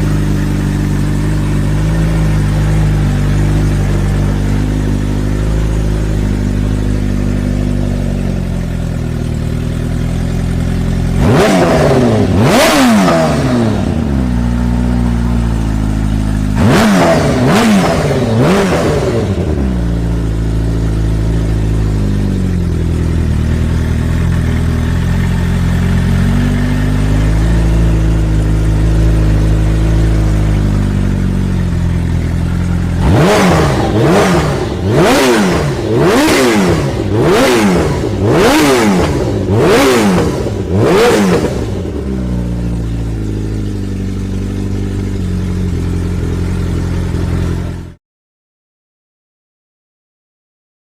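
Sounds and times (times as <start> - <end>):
motorcycle engine idling: 0.0 - 48.0
motorcycle throttle blips: 0.0 - 48.0.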